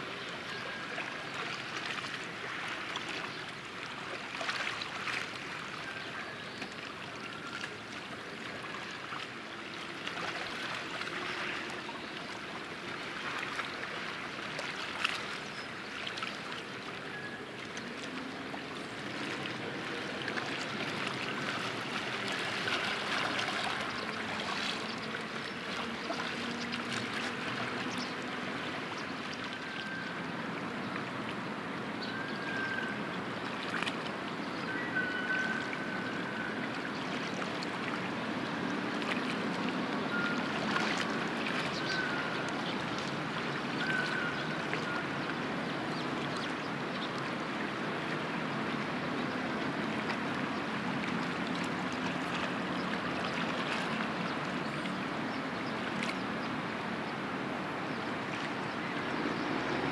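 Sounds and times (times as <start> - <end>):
water lapping at shore: 0.0 - 59.9.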